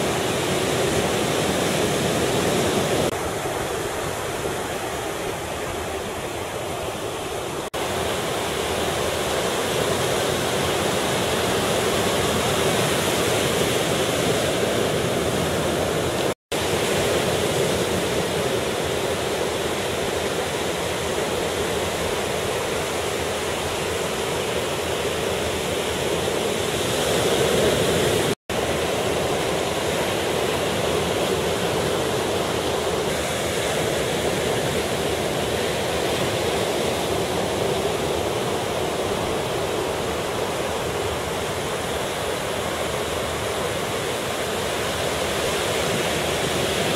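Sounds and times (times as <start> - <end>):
ocean surf breaking on beach: 0.0 - 46.9.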